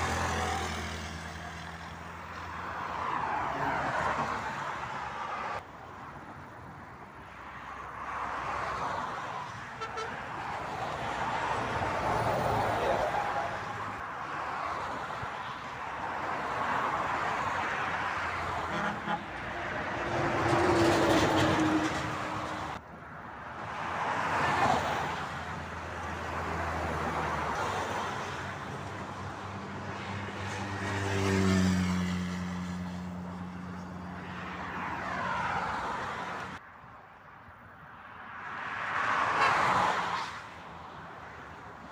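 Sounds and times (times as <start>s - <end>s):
vehicles passing on motorway: 0.0s - 41.9s.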